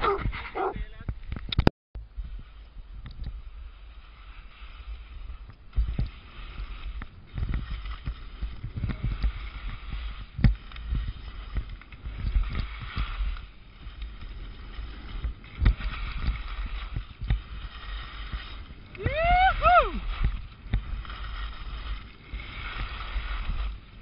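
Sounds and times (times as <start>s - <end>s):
skis scraping over snow: 0.0s - 1.1s, 2.1s - 24.0s
wind rumble on microphone: 0.0s - 24.0s.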